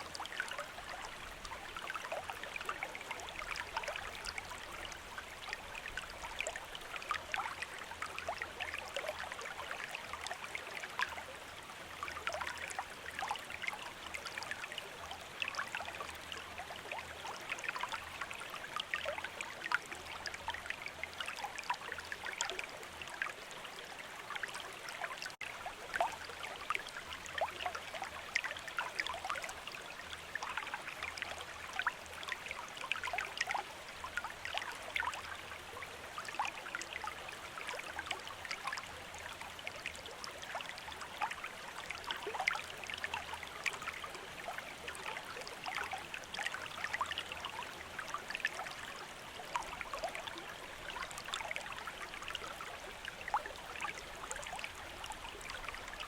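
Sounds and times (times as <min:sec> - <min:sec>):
stream babbling and splashing: 0:00.0 - 0:56.0.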